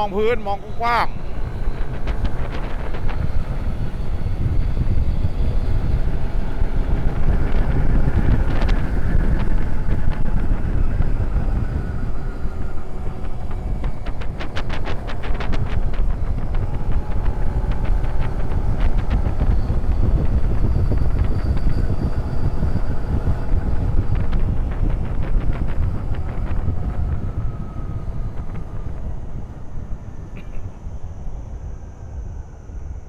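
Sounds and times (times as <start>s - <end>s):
wind buffeting microphone: 0.0s - 33.0s
motorcycle engine running: 1.1s - 30.6s.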